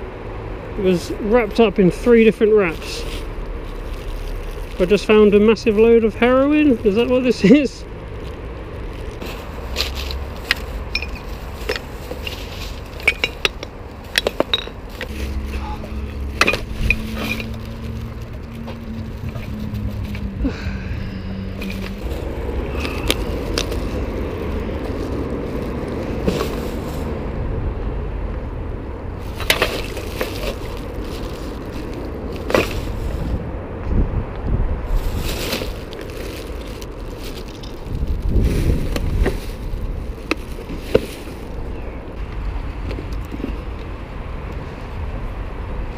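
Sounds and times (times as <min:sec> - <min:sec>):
buggy rolling over pavement: 0:00.8 - 0:27.3, 0:28.4 - 0:44.8.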